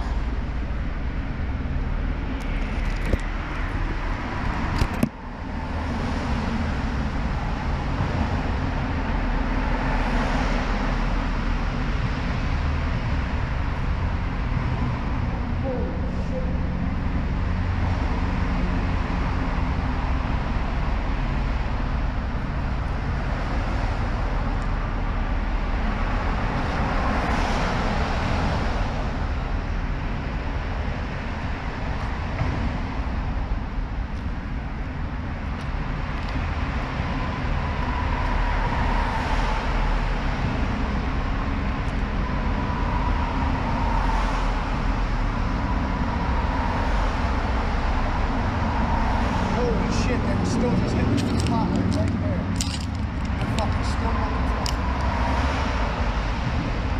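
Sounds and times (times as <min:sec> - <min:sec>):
rushing noise: 0:00.0 - 0:56.9.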